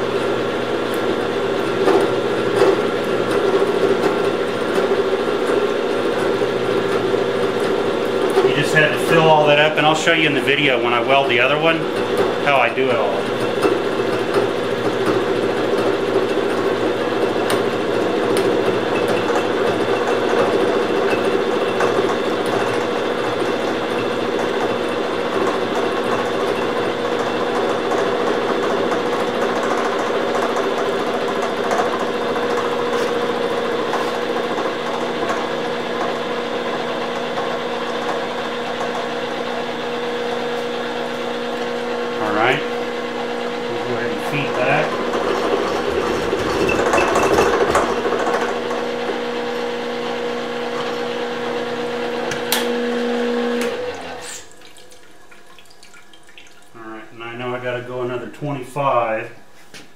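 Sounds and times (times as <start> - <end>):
milling machine hum: 0.0 - 59.9.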